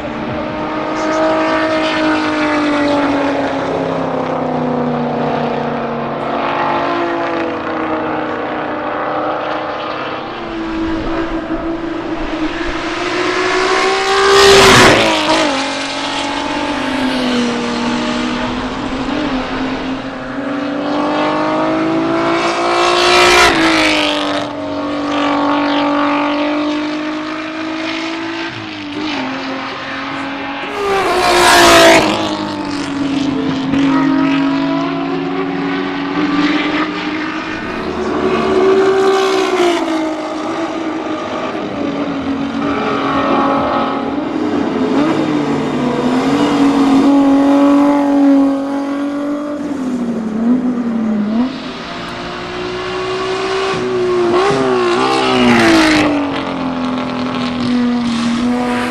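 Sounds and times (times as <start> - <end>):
race car engine passing by: 0.0 - 58.9.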